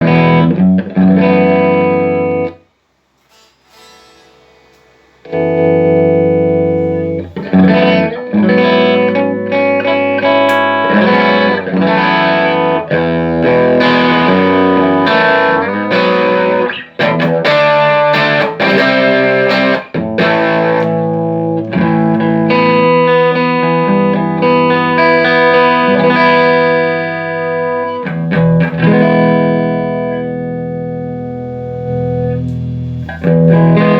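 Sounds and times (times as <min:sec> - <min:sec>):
electric guitar chords: 0:00.0 - 0:02.7, 0:03.7 - 0:33.9.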